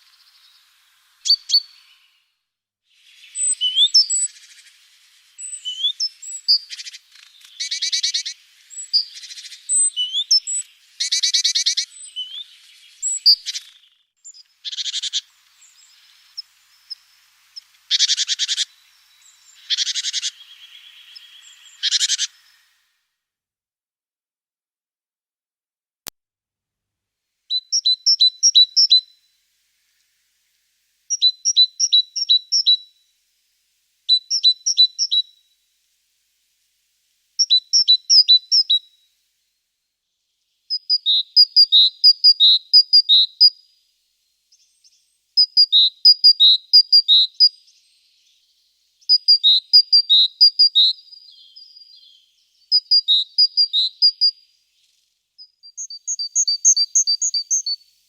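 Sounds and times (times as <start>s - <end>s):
small songbird singing: 0.0s - 23.0s, 27.5s - 35.6s, 36.6s - 39.2s, 40.0s - 58.0s.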